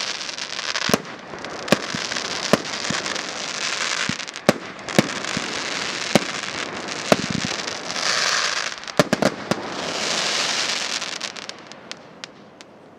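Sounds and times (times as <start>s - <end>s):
firework bangs: 0.0s - 12.7s
fireworks crackling hiss: 0.0s - 12.9s.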